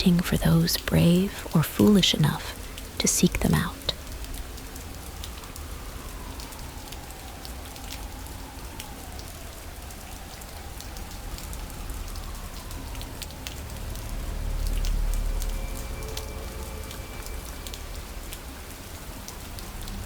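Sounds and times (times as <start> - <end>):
rain hiss with drop ticks: 0.0 - 20.0.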